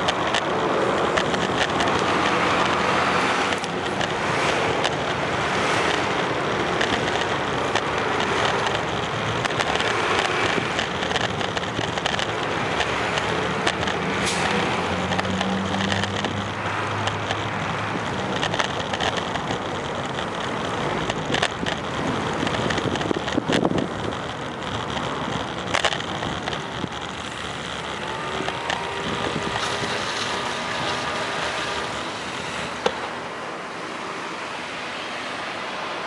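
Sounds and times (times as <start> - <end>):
bicycle knocks and rattles: 0.0 - 33.2
road traffic noise: 0.0 - 36.0.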